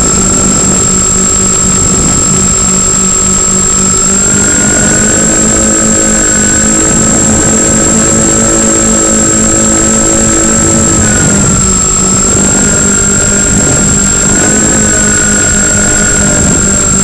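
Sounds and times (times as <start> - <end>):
electric motors whining: 0.0 - 17.0
wind rush: 0.0 - 17.0.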